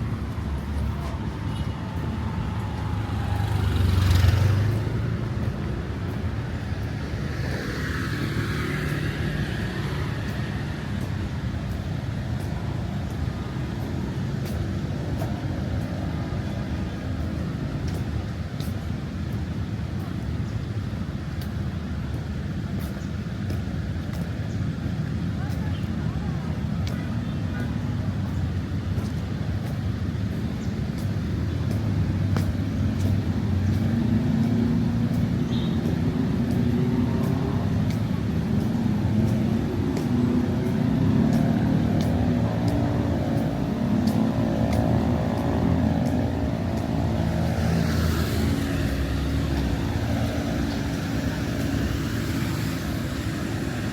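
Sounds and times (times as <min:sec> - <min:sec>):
cars and motorbikes driving past: 0:00.0 - 0:53.9
road traffic rumble: 0:00.0 - 0:53.9.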